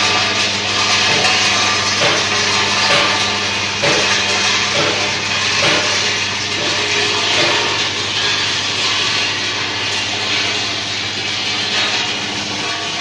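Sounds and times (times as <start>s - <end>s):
sand rattling in rotating drum: 0.0s - 13.0s.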